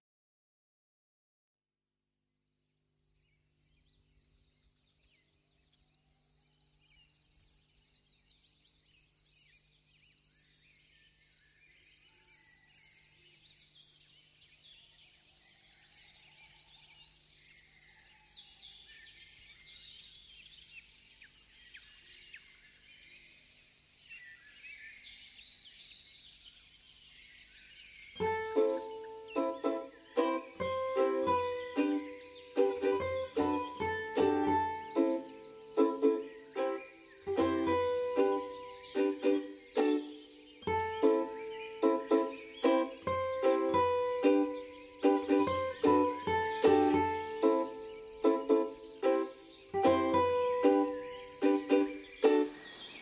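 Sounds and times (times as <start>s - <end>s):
birds chirping in chorus: 2.9s - 53.0s.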